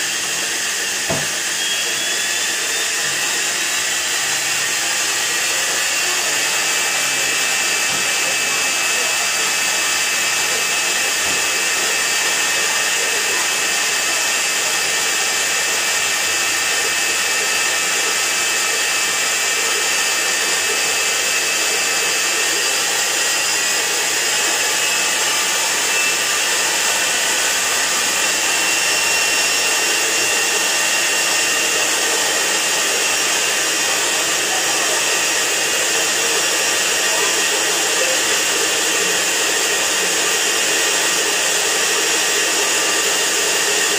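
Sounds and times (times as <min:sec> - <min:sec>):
washing machine motor whirring: 0:00.0 - 0:43.9.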